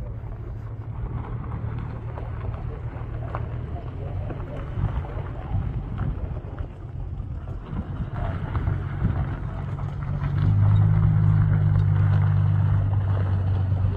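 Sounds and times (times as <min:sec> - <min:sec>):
engine humming: 0:00.0 - 0:13.9.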